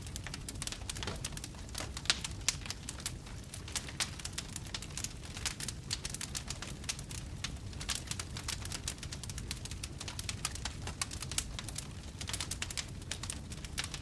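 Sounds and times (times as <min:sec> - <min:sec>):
campfire crackling and popping: 0:00.0 - 0:14.0
low fire rumble: 0:00.0 - 0:14.0.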